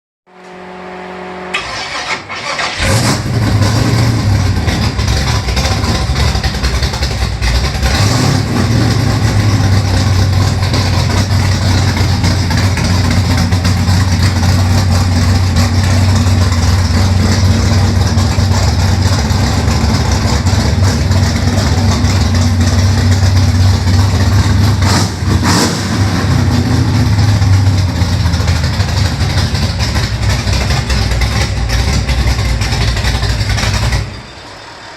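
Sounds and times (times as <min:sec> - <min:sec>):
car engine running: 0:00.3 - 0:34.9
car engine cranking: 0:01.5 - 0:34.4.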